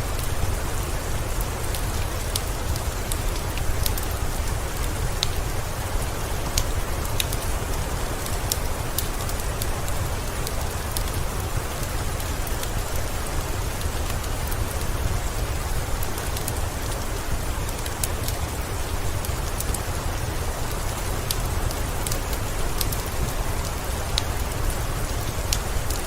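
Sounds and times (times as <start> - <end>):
rain hissing: 0.0 - 26.0.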